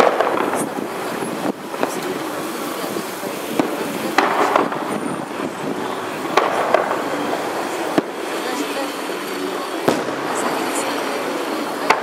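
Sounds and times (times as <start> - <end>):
fireworks bangs: 0.0 - 12.0
passing traffic: 0.0 - 12.0.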